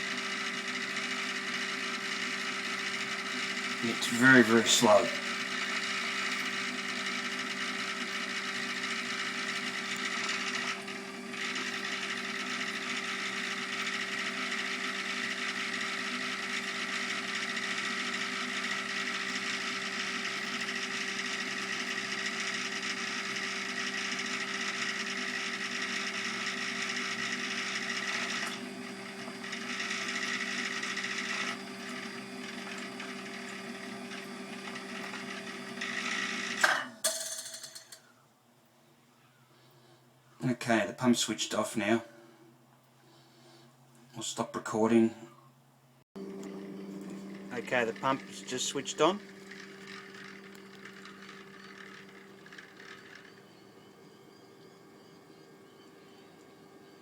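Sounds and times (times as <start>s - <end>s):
sump pump humming and rattling: 0.0s - 38.1s, 46.2s - 54.5s.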